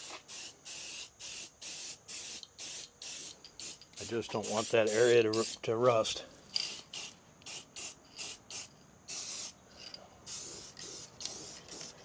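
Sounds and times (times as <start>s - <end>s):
aerosol spray can hissing: 0.0s - 5.6s, 6.7s - 9.6s, 10.3s - 12.0s.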